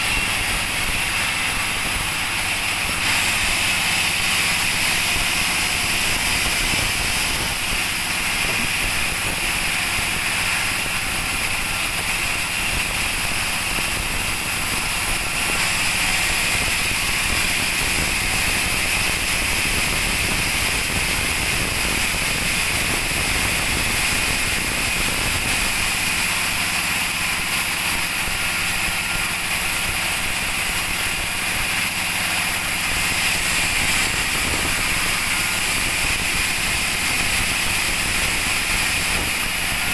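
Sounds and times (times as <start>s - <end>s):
two-stroke chainsaw engine running: 0.0s - 39.9s.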